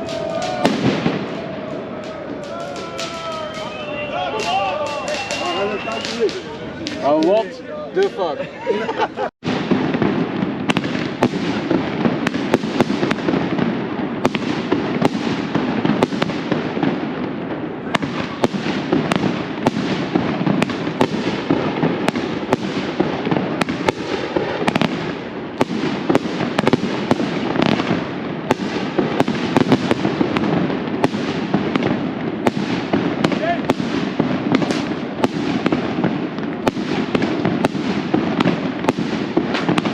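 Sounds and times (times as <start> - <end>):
firecrackers crackling and banging: 0.0 - 8.2, 9.4 - 39.9.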